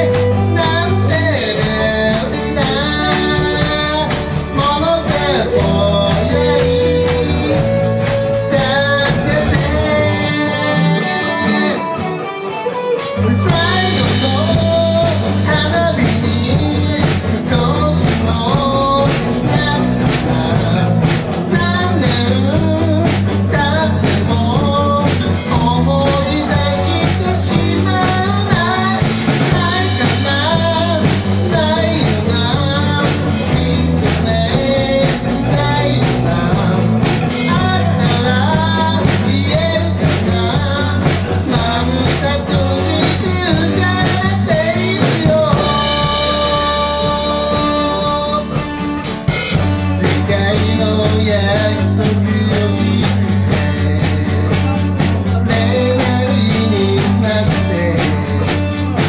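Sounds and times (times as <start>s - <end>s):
acoustic and electric guitars: 0.0s - 59.0s
drum kit: 0.0s - 59.0s
man singing: 0.0s - 59.0s.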